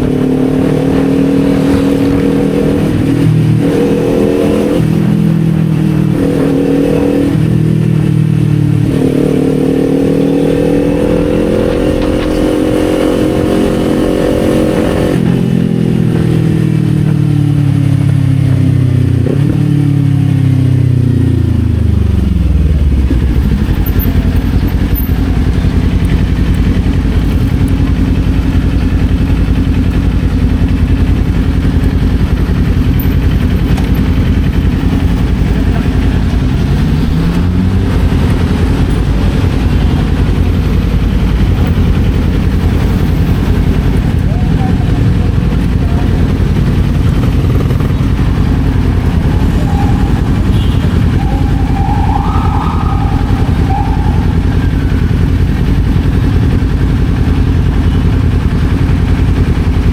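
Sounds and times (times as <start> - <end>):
motorcycle engine revving and idling: 0.0 - 59.9.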